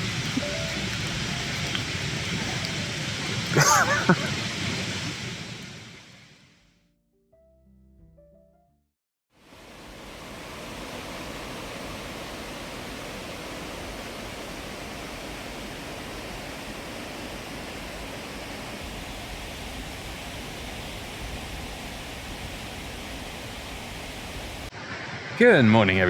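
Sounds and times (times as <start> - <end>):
waterfall and river rushing: 0.0 - 6.5, 9.4 - 26.0.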